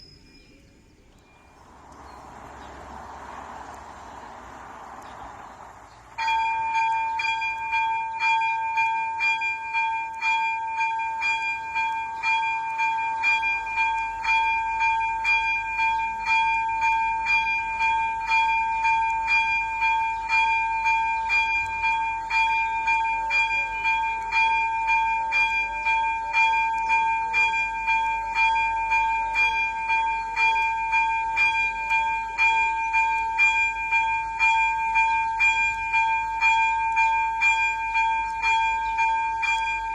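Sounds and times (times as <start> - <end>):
electronic level-crossing bell ringing: 6.2 - 39.9.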